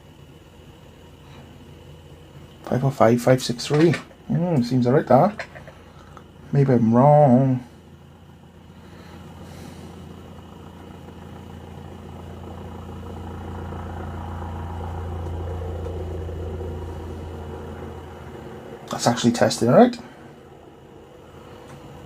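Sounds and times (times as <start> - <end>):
low humming drone: 0.0 - 22.0.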